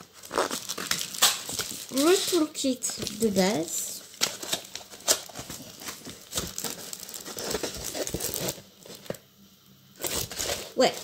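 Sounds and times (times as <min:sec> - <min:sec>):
plastic wrapping crinkling: 0:00.0 - 0:09.3, 0:10.0 - 0:11.0.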